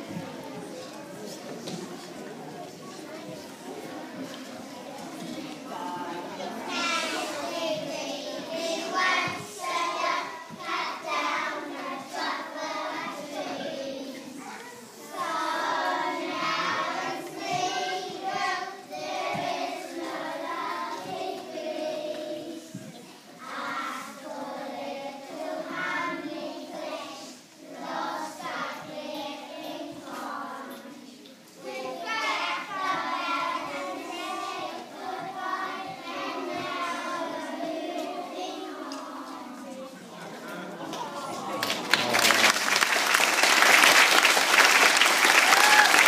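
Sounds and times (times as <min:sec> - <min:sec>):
children singing in chorus: 0:00.0 - 0:41.8.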